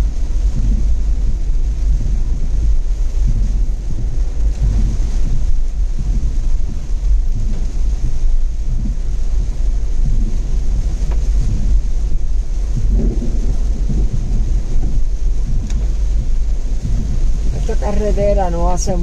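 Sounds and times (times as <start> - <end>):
road noise rumble: 0.0 - 19.0
wind buffeting microphone: 0.0 - 19.0.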